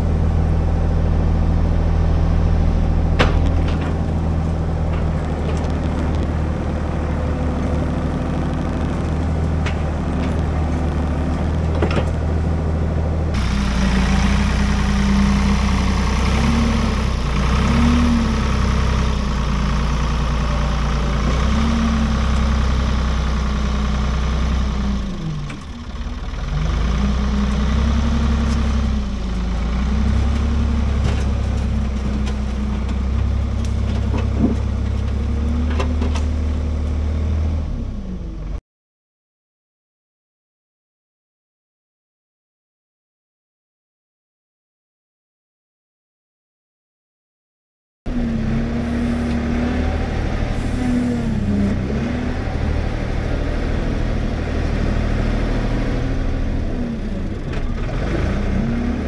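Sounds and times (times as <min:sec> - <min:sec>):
diesel engine under load: 0:00.0 - 0:38.6, 0:48.1 - 0:59.0.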